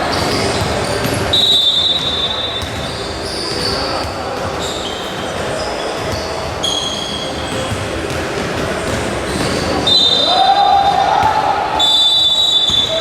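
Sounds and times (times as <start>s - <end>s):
crowd noise: 0.0s - 13.0s
sneakers squeaking on court: 0.0s - 13.0s.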